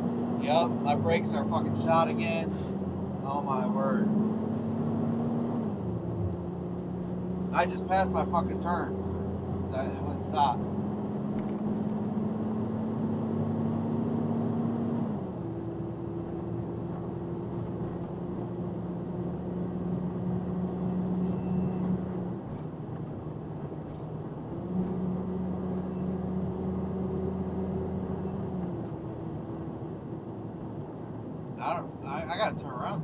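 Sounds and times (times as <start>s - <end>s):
truck engine and road noise: 0.0s - 33.0s.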